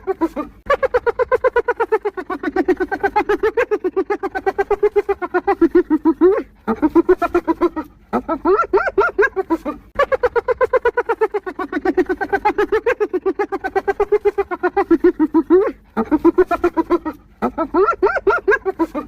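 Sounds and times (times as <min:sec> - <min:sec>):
hyena giggling: 0:00.0 - 0:19.0.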